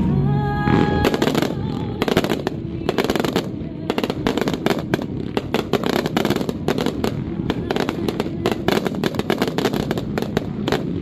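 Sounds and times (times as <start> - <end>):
fireworks cracking and popping: 0.6 - 11.0.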